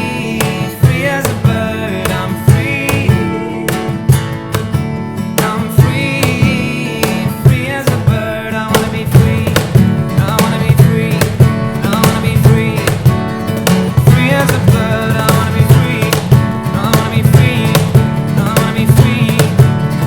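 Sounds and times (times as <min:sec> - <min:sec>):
person singing: 0:00.0 - 0:04.3, 0:05.4 - 0:20.0
acoustic guitar strumming: 0:00.0 - 0:20.0
cajon beat: 0:00.0 - 0:20.0.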